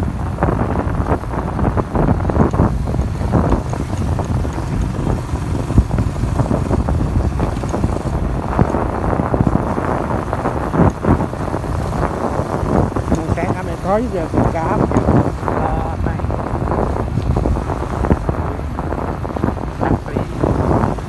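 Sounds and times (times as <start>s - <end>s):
motorbike engine running: 0.0s - 21.0s
wind buffeting microphone: 0.0s - 21.0s.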